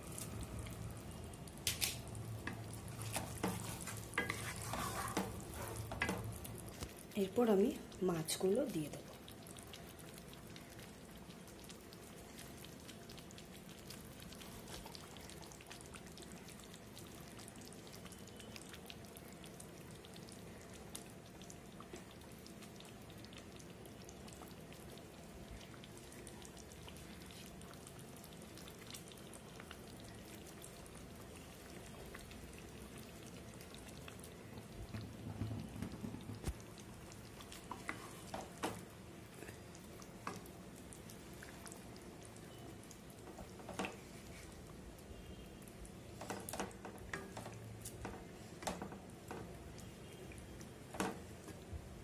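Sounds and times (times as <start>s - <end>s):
gravy simmering and bubbling: 0.0s - 52.0s.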